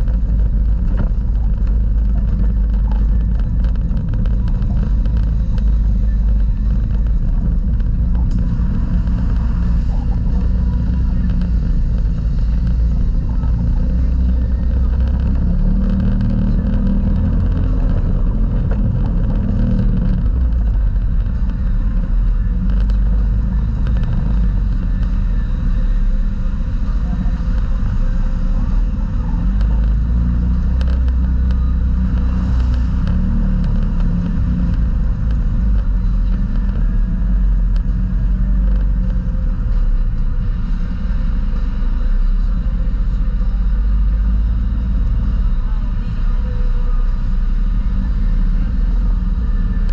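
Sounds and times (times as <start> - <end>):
off-road vehicle engine droning: 0.0 - 49.9.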